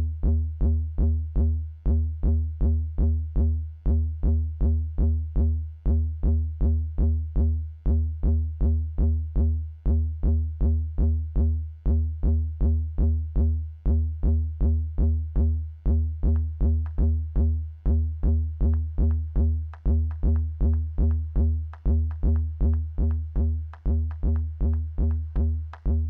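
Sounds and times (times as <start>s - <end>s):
deep synth bass: 0.0s - 26.0s.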